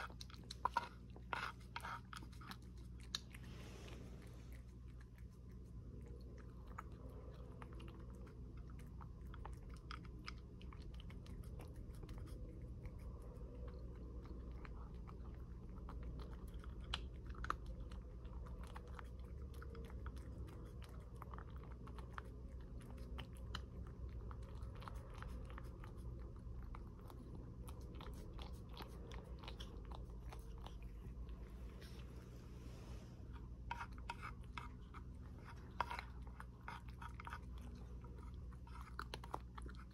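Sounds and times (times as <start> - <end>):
cat chewing food: 0.0 - 39.9.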